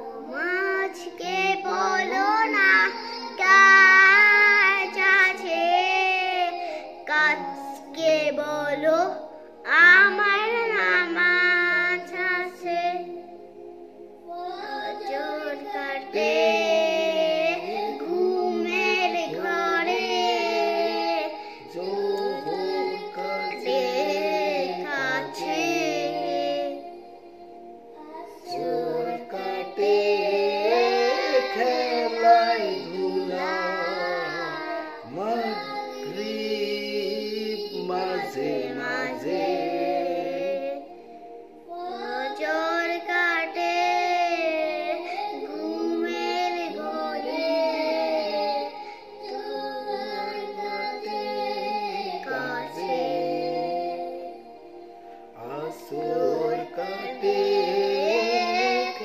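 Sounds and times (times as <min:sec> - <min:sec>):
boy and man singing: 0:00.0 - 0:13.2, 0:14.3 - 0:26.9, 0:28.1 - 0:41.0, 0:41.7 - 0:54.4, 0:55.4 - 0:59.0.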